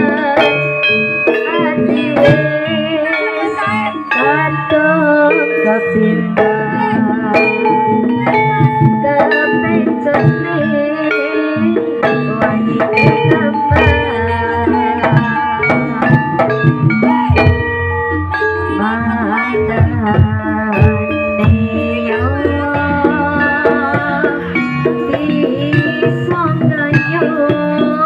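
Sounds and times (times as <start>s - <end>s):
hand drum strokes: 0.0s - 28.0s
melodic instruments: 0.0s - 28.0s.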